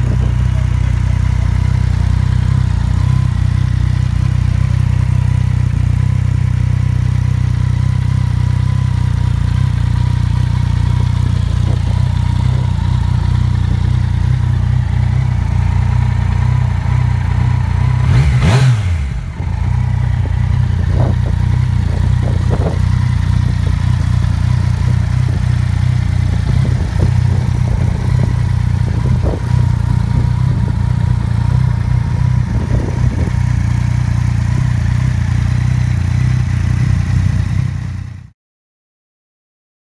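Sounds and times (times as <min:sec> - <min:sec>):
motorcycle engine idling: 0:00.0 - 0:38.3.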